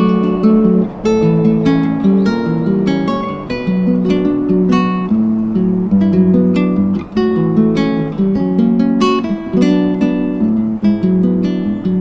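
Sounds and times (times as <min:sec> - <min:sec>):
acoustic guitar plucking: 0:00.0 - 0:12.0.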